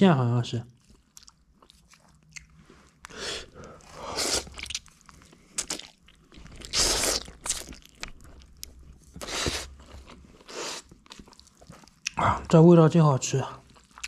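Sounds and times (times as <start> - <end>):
person chewing noodles: 0.8 - 12.5, 13.6 - 14.0.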